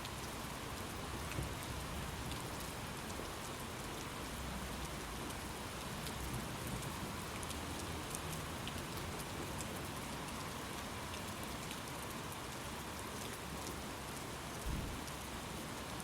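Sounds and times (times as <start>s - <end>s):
raindrop ticks: 0.0s - 15.4s
steady rainfall hiss: 0.0s - 16.0s.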